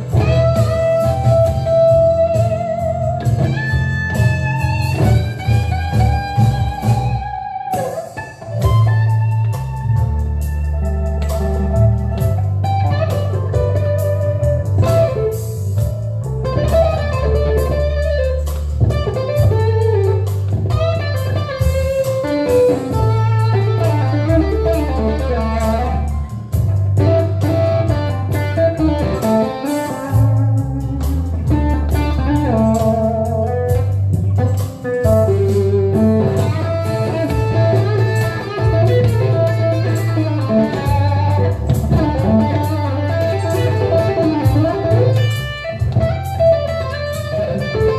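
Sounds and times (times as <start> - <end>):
electric guitar blues lead: 0.0 - 47.9
low bass accompaniment: 0.0 - 47.9.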